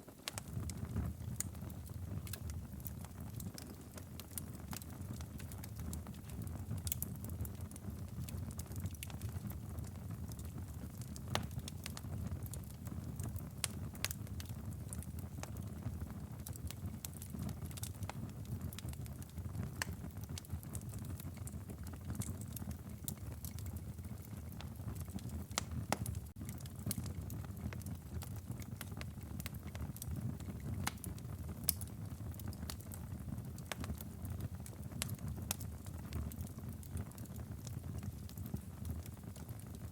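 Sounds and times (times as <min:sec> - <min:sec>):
fire crackling and popping: 0:00.0 - 0:39.9
low rumble of flames: 0:00.1 - 0:39.9.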